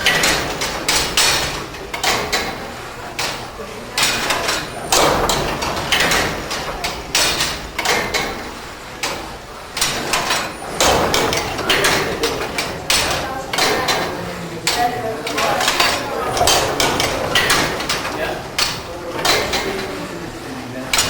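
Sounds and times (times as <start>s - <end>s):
knocks and clatters of machinery: 0.0s - 21.0s.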